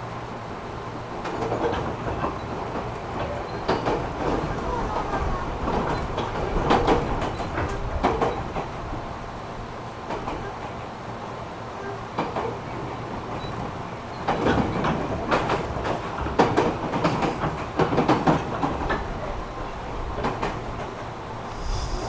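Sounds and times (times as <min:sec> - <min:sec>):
train rolling noise: 0:00.0 - 0:22.0
wheels clacking over rail joints: 0:01.1 - 0:10.9, 0:11.8 - 0:21.4.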